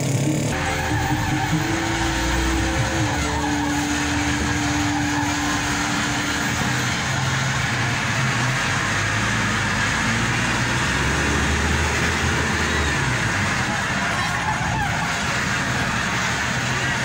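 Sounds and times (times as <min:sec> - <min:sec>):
road noise: 0:00.0 - 0:17.0
slow traffic engines: 0:00.0 - 0:17.0
steady engine hum: 0:00.0 - 0:17.0.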